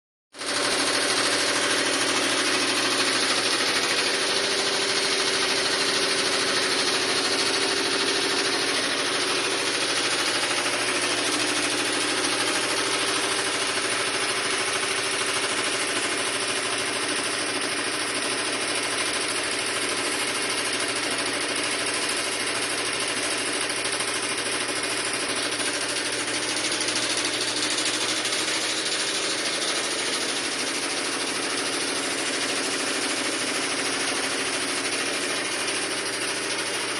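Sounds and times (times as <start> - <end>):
washing machine running: 0.4 - 36.9.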